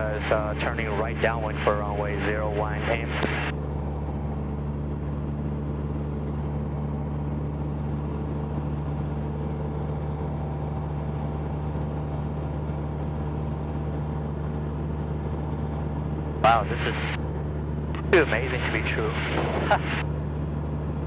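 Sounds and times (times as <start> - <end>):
aircraft engine droning in cabin: 0.0 - 21.0.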